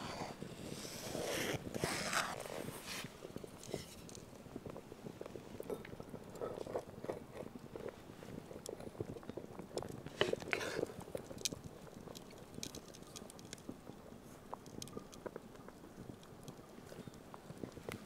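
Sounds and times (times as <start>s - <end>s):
water simmering in pot: 0.0s - 18.0s.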